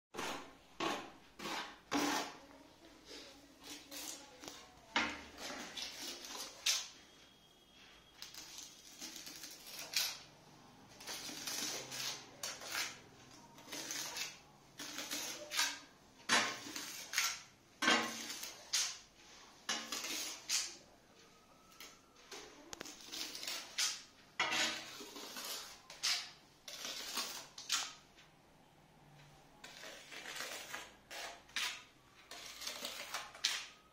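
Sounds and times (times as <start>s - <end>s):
trowel scraping adhesive on floor: 0.1s - 2.5s, 3.1s - 7.0s, 8.1s - 10.3s, 10.9s - 19.1s, 19.7s - 20.8s, 22.8s - 28.0s, 29.6s - 33.9s.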